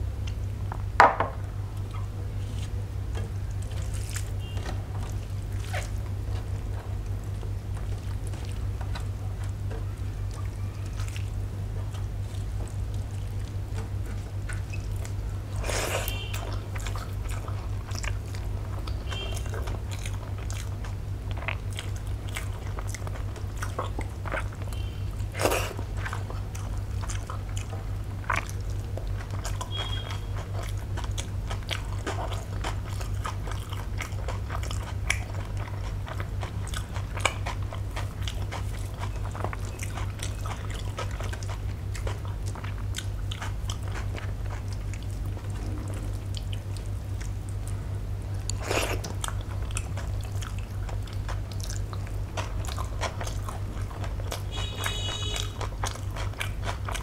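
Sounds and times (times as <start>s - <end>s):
steady low hum: 0.0s - 57.0s
moist chewing: 1.7s - 57.0s.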